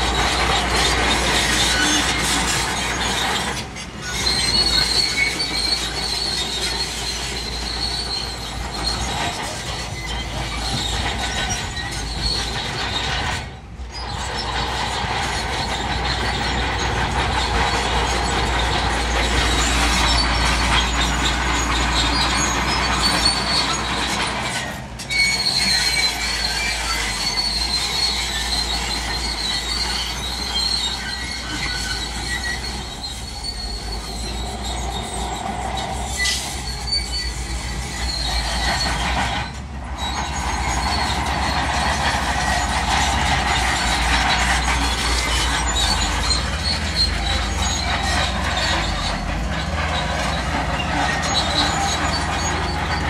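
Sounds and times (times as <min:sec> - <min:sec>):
bulldozer engine rumble: 0:00.0 - 0:53.0
steel tracks squealing and clattering: 0:00.0 - 0:53.0.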